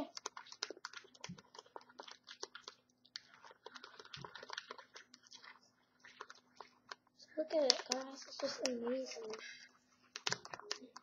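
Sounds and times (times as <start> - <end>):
slime squished by hands: 0.0 - 11.0.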